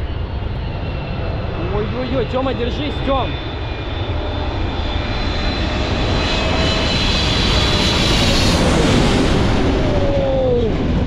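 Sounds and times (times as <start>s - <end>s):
high turbine whine: 0.0s - 11.0s
jet engines roaring: 0.0s - 11.0s
jet blast gusting on microphone: 0.7s - 11.0s.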